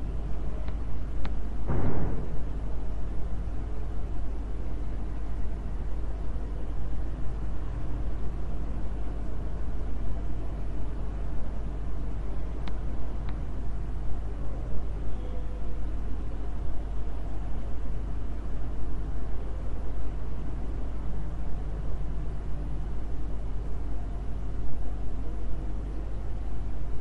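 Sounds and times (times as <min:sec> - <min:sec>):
low rumble and hiss: 0:00.0 - 0:27.0.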